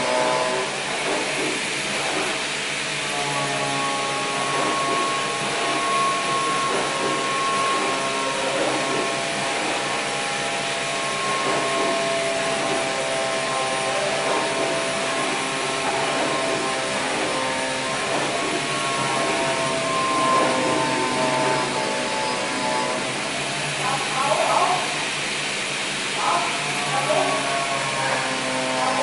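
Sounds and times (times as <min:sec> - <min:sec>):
motor-driven machine whirring: 0:00.0 - 0:29.0.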